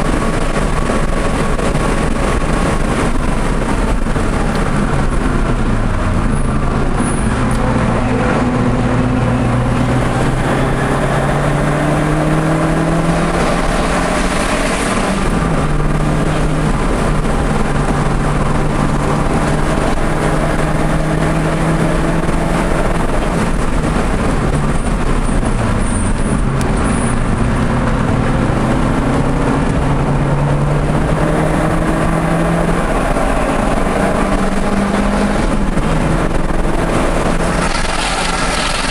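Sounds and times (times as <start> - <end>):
car engine accelerating: 0.0 - 38.9
road and wind noise: 0.0 - 38.9.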